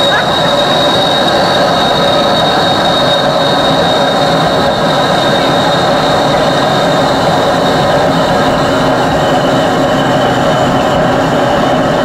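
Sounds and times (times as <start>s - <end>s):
jet engine whining: 0.0s - 12.0s.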